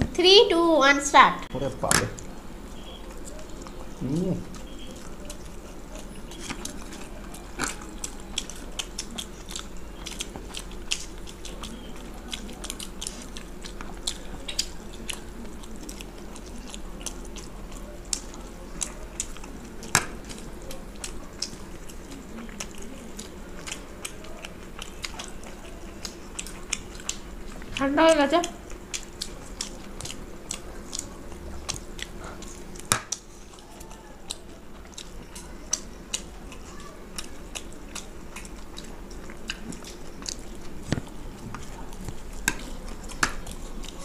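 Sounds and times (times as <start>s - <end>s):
people biting and chewing: 1.9s - 44.0s.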